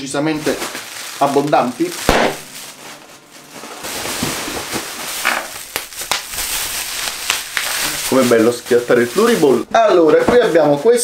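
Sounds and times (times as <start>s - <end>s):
bubble wrap popping: 0.0s - 10.8s
bubble wrap being crumpled: 0.0s - 11.0s.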